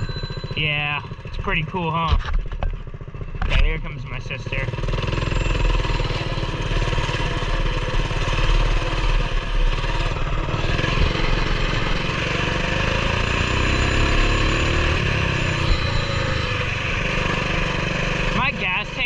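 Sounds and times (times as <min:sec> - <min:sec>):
mini bike engine running: 0:00.0 - 0:19.0.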